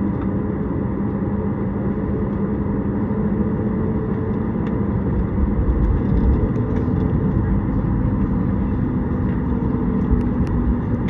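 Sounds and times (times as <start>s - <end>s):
airplane cabin drone: 0.0s - 11.0s
low hum: 0.0s - 11.0s.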